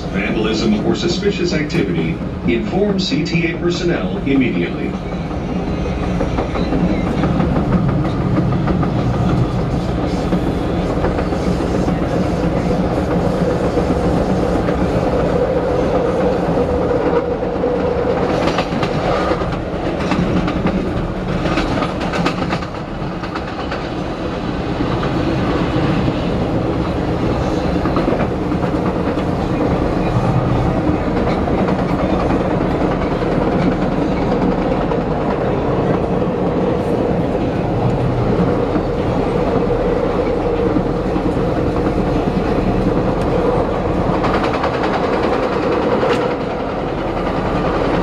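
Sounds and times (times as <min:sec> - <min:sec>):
steel wheels rumbling on rail: 0:00.0 - 0:48.0.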